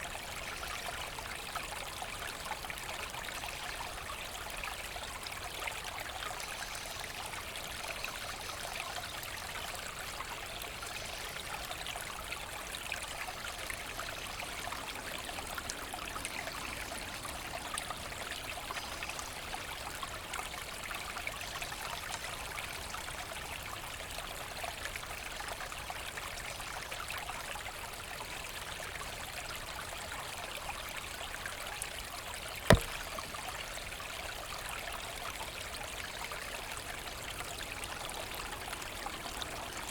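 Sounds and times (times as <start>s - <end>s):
brook trickling: 0.0s - 39.9s.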